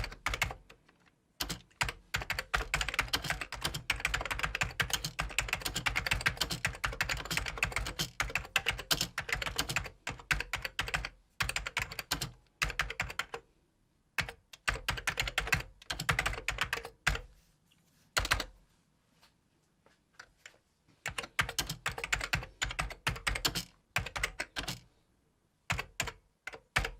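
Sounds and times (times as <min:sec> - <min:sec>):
computer keyboard typing: 0:00.0 - 0:13.5, 0:14.2 - 0:17.3, 0:18.2 - 0:18.6, 0:20.2 - 0:24.9, 0:25.7 - 0:26.9.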